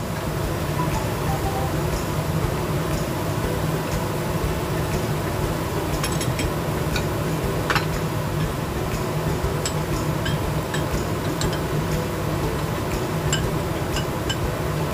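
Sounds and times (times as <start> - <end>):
steady hum and hiss: 0.0 - 14.9.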